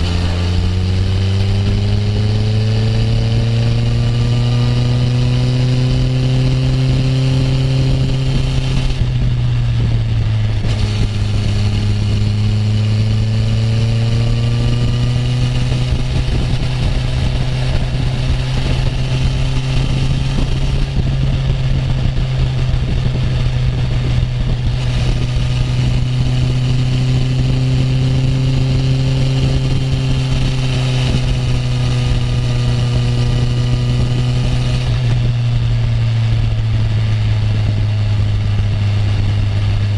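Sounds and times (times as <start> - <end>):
motorcycle engine cruising: 0.0 - 39.9
wind rumble: 0.0 - 39.9.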